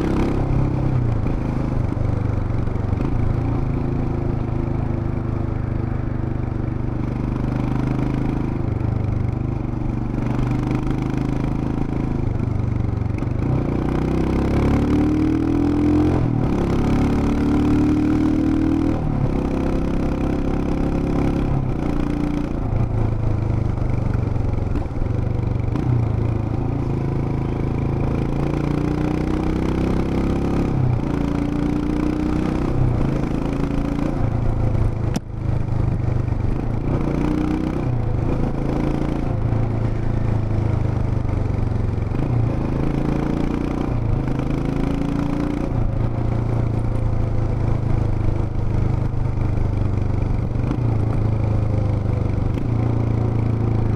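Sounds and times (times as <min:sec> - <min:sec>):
motorcycle engine revving through gears: 0:00.0 - 0:53.9.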